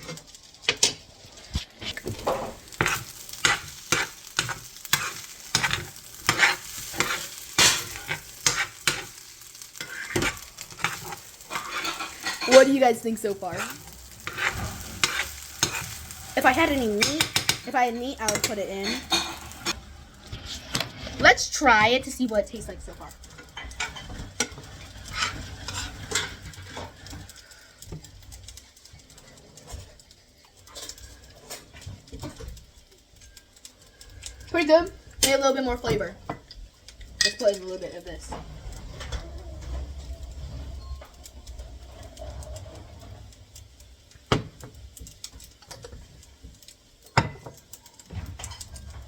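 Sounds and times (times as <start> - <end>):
spoon scraping a frying pan: 0.0 - 28.1, 34.2 - 49.0
light sizzling: 0.0 - 49.0.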